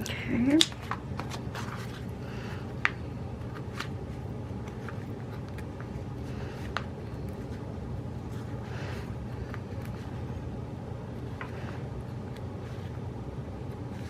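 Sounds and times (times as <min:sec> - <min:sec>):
steady low hum: 0:00.0 - 0:14.0
paper rustling: 0:00.6 - 0:14.0.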